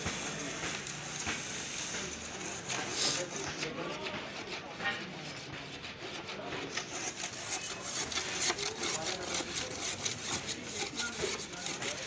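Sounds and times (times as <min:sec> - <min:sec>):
hand tool scraping plastic: 0:00.0 - 0:12.0.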